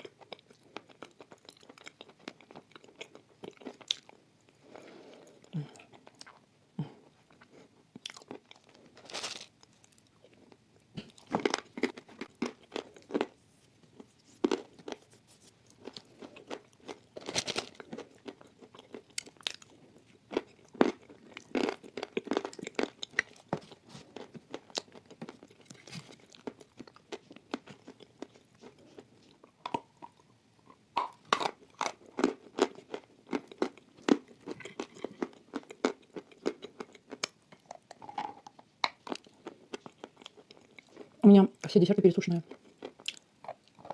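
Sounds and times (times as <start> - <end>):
wet chewing and mouth sounds: 0.0 - 6.5, 7.2 - 41.2, 42.5 - 43.9.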